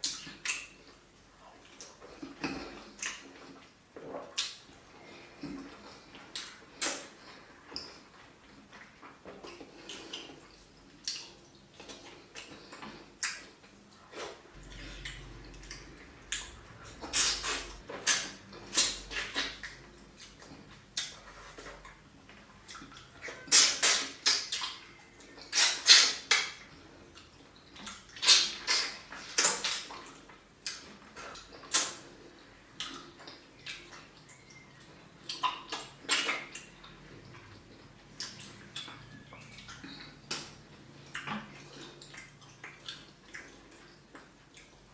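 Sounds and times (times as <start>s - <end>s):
wet chewing and slurping: 0.0s - 44.9s.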